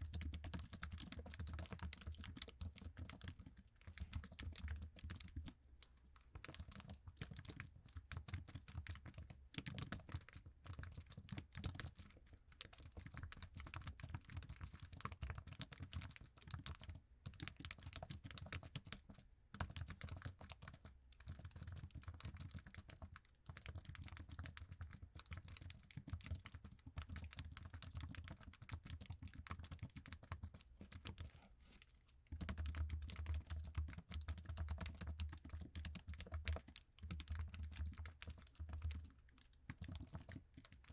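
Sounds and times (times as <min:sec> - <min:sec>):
rapid keyboard typing: 0:00.0 - 0:05.6, 0:06.4 - 0:40.9.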